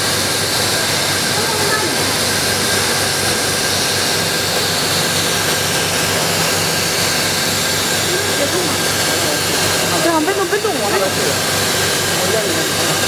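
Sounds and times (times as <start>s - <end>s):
low machine hum: 0.0s - 13.0s
rushing air noise: 0.0s - 13.0s.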